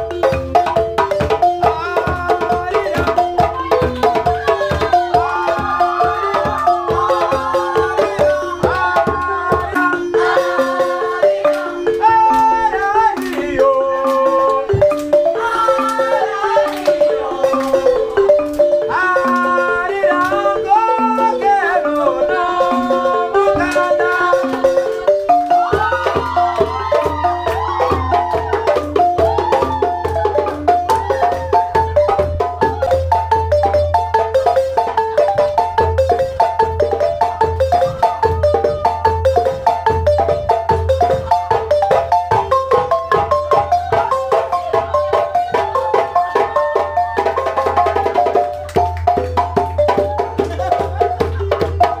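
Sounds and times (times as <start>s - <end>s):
rapid drum and wood-block hits: 0.0s - 52.0s
wooden xylophone melody: 0.0s - 52.0s.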